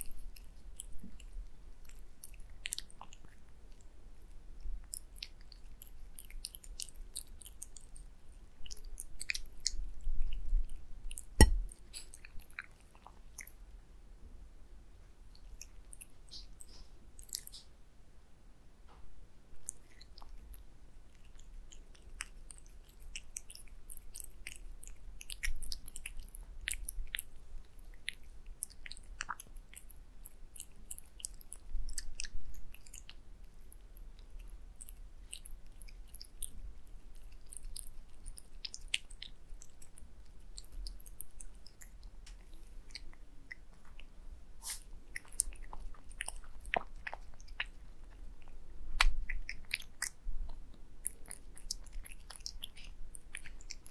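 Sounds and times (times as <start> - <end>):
cat chewing wet food: 0.0 - 13.7, 15.3 - 17.7, 19.6 - 53.9.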